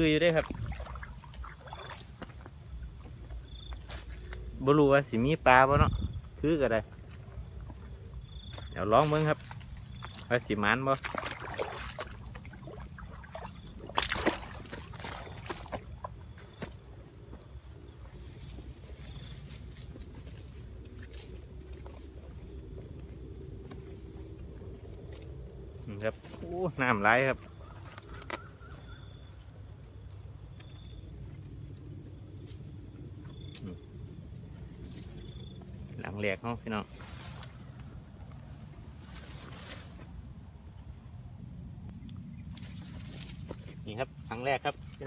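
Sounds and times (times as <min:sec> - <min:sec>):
water sloshing and splashing: 0:00.0 - 0:04.5, 0:06.2 - 0:31.6, 0:36.8 - 0:40.5, 0:42.0 - 0:45.0
insects trilling: 0:00.0 - 0:45.0.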